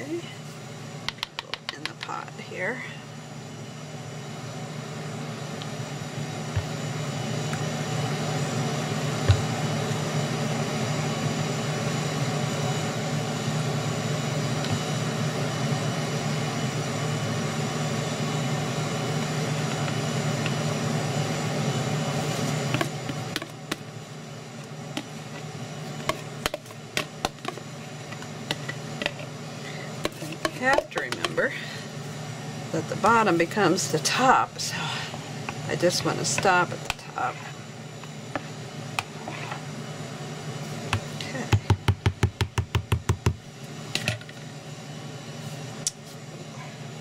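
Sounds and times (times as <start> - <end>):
machine hum with hiss: 0.0 - 47.0.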